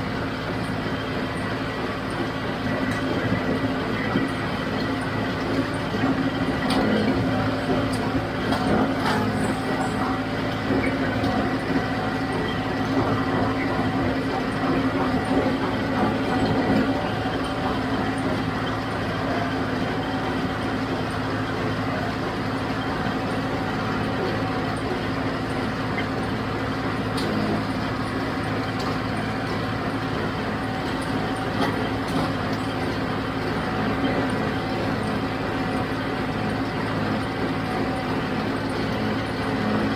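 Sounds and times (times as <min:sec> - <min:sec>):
baler mechanism running: 0:00.0 - 0:39.9
diesel tractor running: 0:00.0 - 0:39.9.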